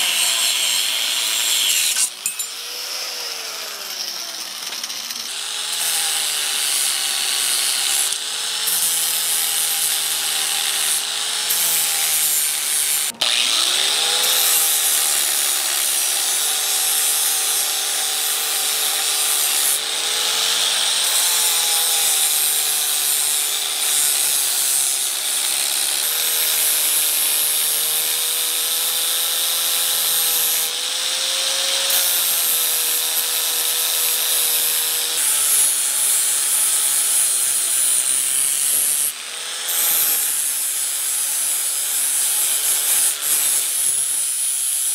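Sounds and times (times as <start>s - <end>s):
angle grinder grinding steel: 0.0s - 44.9s.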